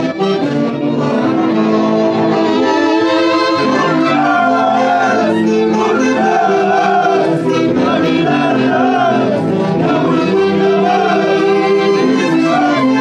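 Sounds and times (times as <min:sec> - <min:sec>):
festival orchestra playing melody: 0:00.0 - 0:13.0.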